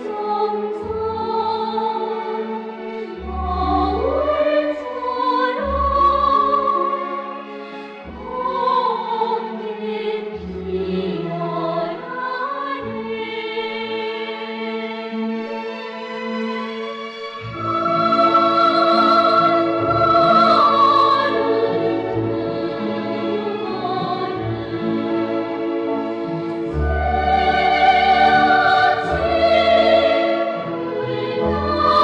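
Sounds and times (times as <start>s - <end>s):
operatic choir singing: 0.0s - 32.0s
orchestral music: 0.0s - 32.0s.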